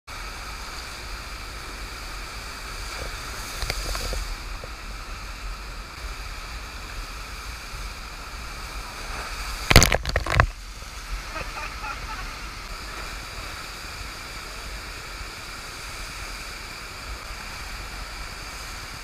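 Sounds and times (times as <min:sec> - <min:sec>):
rushing water: 0:00.1 - 0:19.0
surfboard carving through water: 0:00.1 - 0:19.0.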